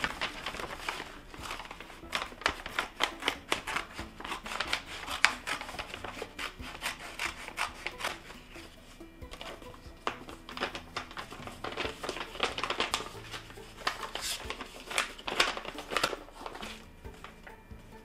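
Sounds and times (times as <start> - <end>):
scissors cutting paper: 0.0 - 8.7, 9.4 - 16.8
paper rustling: 0.0 - 17.6.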